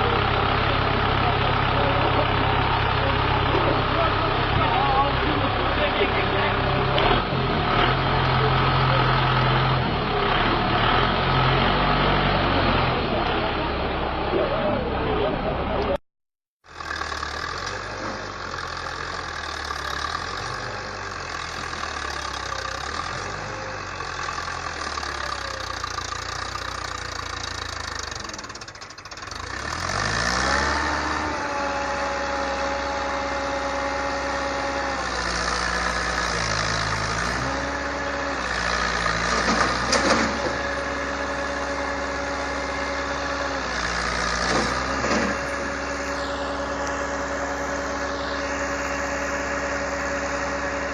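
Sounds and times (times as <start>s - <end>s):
tractor engine running: 0.0s - 16.0s, 16.6s - 50.9s.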